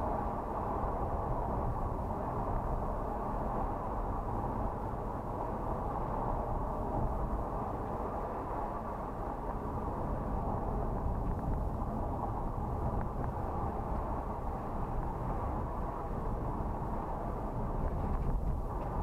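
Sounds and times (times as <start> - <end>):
car engine and tyre rumble inside cabin: 0.0 - 19.0.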